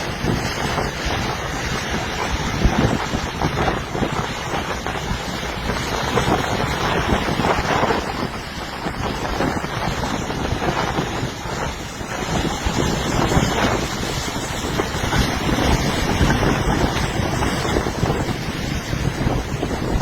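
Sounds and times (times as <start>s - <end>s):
sea waves breaking on shore: 0.0s - 20.0s
wind buffeting microphone: 0.0s - 20.0s.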